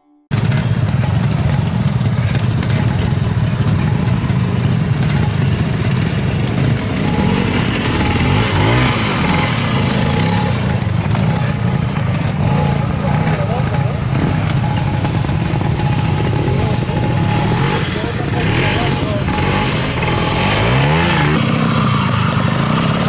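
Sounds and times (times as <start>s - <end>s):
motorcycle engine at low revs: 0.3s - 23.0s.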